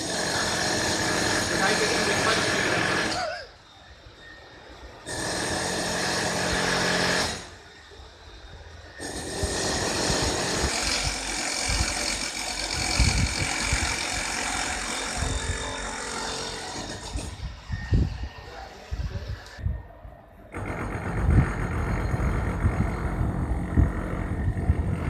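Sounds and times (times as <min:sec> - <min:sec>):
continuous rushing noise: 0:00.0 - 0:25.0.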